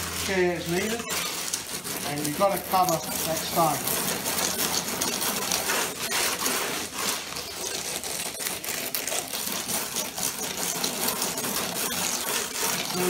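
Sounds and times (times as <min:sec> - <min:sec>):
float scraping wet concrete: 0:00.0 - 0:13.0.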